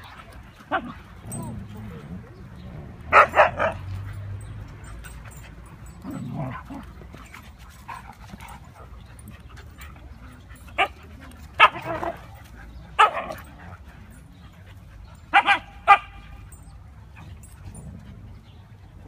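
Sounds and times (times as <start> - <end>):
dogs barking and yipping: 0.0 - 19.0.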